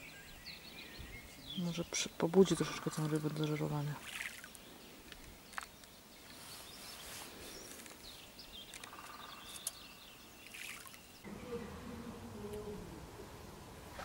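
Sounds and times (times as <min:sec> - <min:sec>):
birds chirping and calling: 0:00.0 - 0:11.8
faint outdoor ambience: 0:00.0 - 0:14.0.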